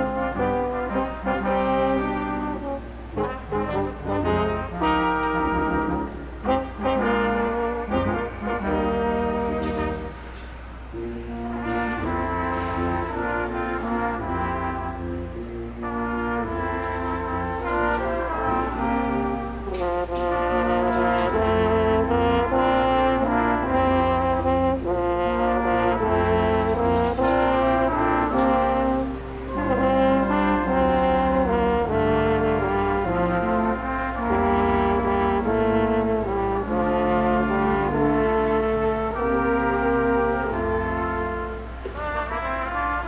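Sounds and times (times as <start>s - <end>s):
brass ensemble playing chords: 0.0s - 43.0s.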